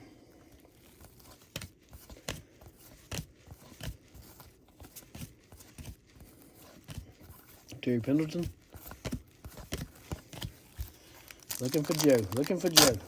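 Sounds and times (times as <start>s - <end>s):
trading cards flipping and snapping: 0.8s - 13.0s.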